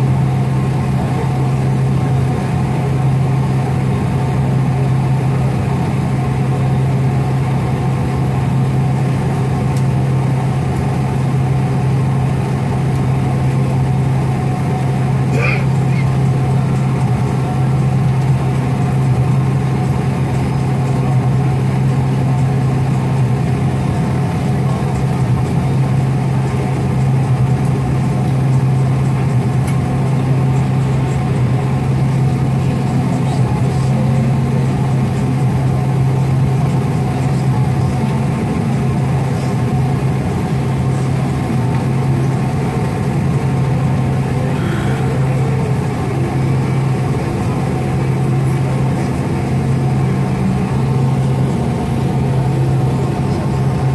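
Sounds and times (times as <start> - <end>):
jet engines idling: 0.0 - 53.9.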